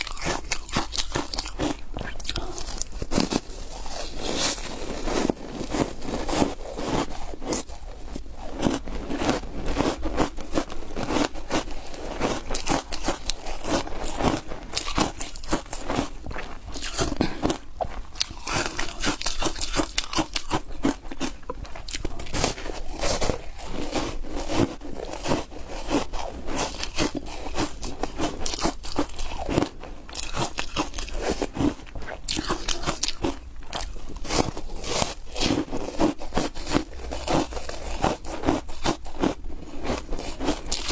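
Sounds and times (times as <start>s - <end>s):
crunchy ice chewing: 0.0s - 40.9s.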